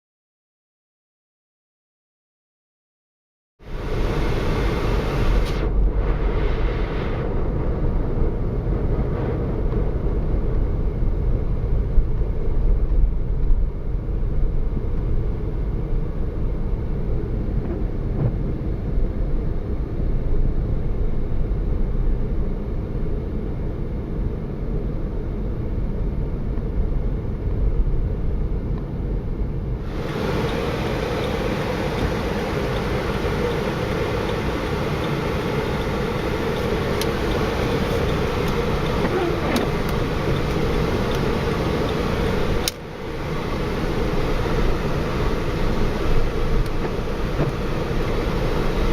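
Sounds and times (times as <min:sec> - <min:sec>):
car engine and tyre rumble: 0:03.6 - 0:48.9.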